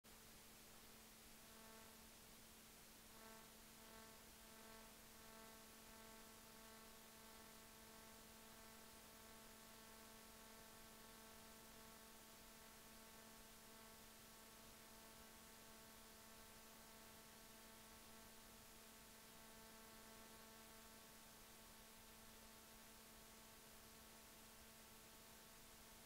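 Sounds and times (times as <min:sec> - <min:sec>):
faint steady hum: 0:00.1 - 0:26.0
low hiss: 0:00.1 - 0:26.0.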